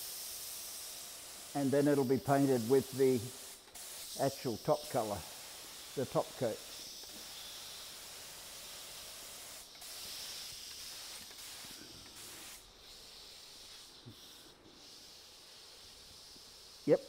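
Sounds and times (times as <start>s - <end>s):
paint spray gun hissing: 0.0s - 17.0s.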